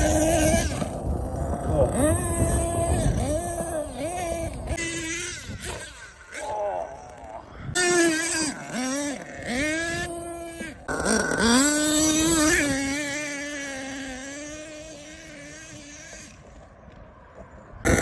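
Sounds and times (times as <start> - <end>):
model truck engine revving: 0.0 - 16.6.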